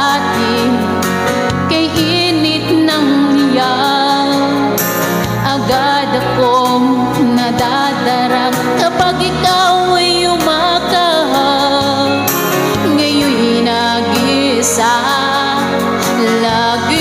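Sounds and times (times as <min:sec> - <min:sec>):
instrumental pop ballad: 0:00.0 - 0:17.0.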